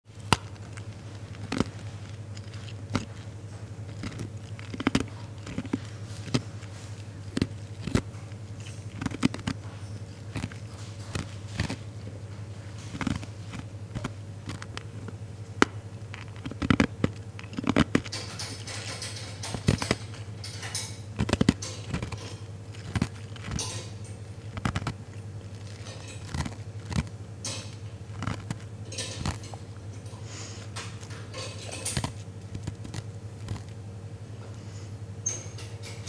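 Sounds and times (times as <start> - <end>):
ice cubes being chewed: 0.1 - 33.8
low steady hum: 0.1 - 36.0.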